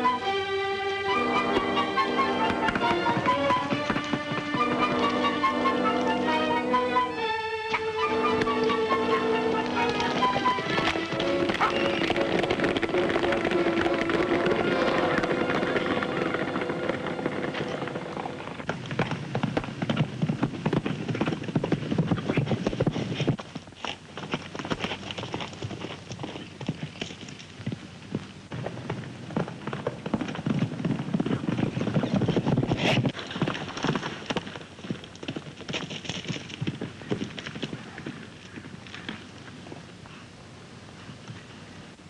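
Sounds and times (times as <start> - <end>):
horse hooves clip-clopping on dirt: 0.0 - 42.0.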